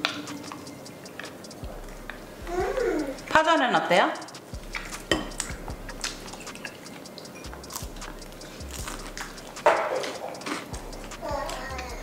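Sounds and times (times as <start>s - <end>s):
chopsticks tapping plates and bowls: 0.0s - 2.2s, 3.0s - 12.0s.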